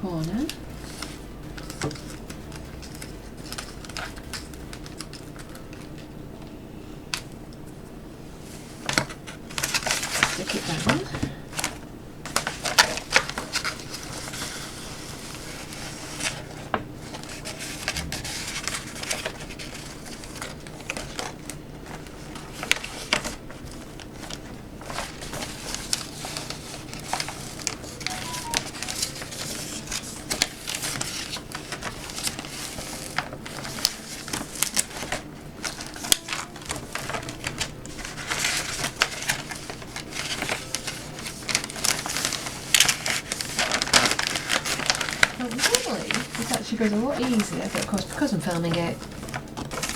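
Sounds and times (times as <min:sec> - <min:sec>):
paper and plastic film crinkling: 0:00.0 - 0:06.5, 0:07.1 - 0:49.9.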